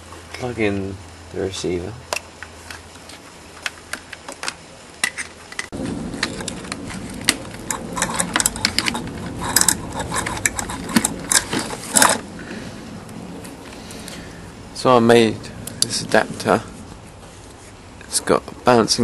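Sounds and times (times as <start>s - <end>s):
background noise: 0.0s - 19.0s.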